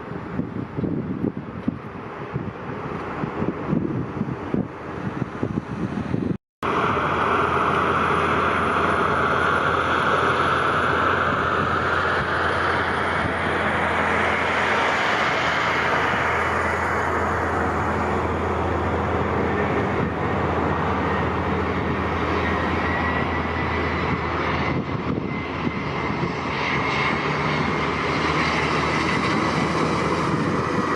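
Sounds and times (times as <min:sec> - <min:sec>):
jet airliner engines roaring: 0:00.0 - 0:30.9.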